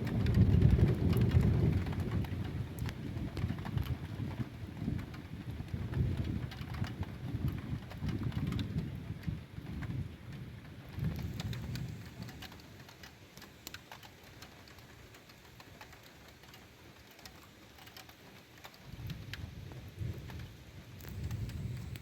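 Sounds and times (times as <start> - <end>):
rain falling: 0.0 - 22.0
raindrops ticking on surface: 0.0 - 22.0.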